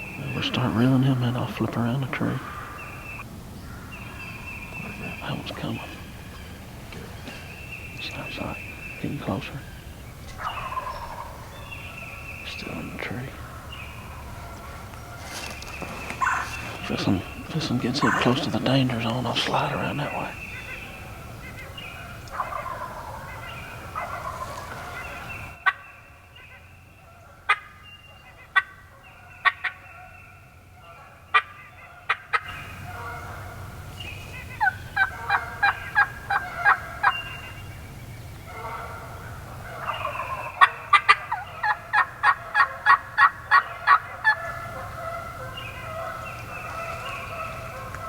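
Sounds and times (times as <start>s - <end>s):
turkey clucks and yelps: 0.0s - 48.0s.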